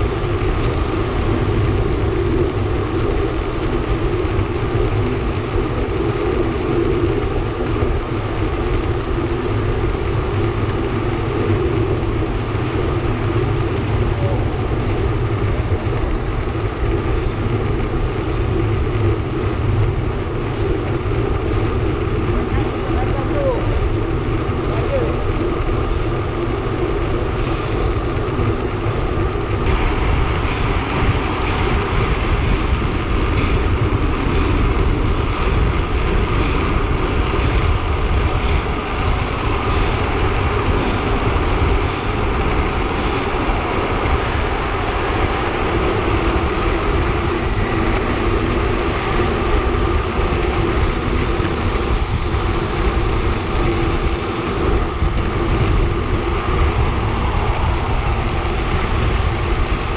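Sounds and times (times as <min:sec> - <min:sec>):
bicycle road noise: 0:00.0 - 0:59.9
wind buffeting microphone: 0:00.0 - 0:59.9.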